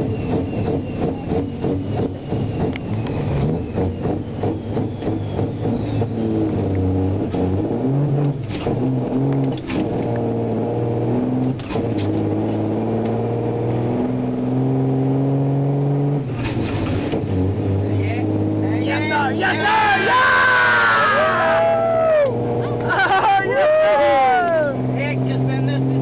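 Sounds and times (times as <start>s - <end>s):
truck diesel engine accelerating: 0.0s - 26.0s.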